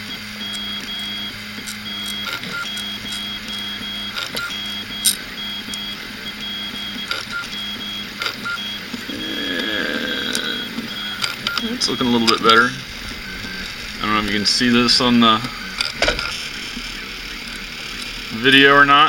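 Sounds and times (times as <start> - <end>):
sharp clicks: 0.0 - 18.4
stepper motor hum and whine: 0.0 - 19.0.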